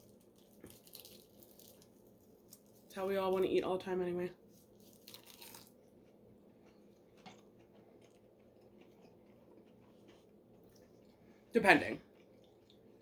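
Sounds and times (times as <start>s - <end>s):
person chewing: 0.0s - 2.9s, 4.7s - 11.4s, 12.1s - 13.0s.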